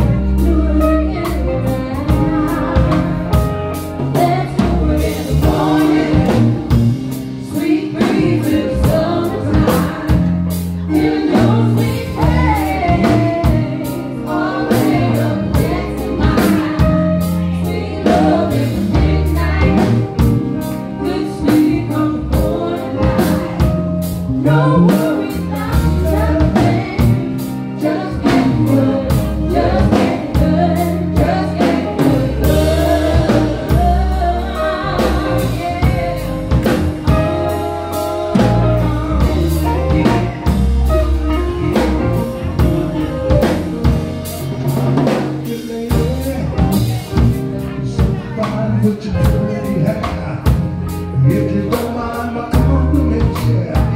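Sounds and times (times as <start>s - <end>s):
woman singing: 0.0s - 43.7s
drum kit: 0.0s - 53.9s
electric bass: 0.0s - 53.9s
electric guitar: 0.0s - 53.9s.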